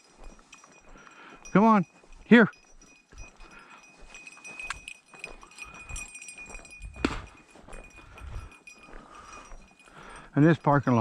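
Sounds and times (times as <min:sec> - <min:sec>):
footsteps through brush: 0:00.0 - 0:09.7
small bell ringing: 0:00.0 - 0:11.0.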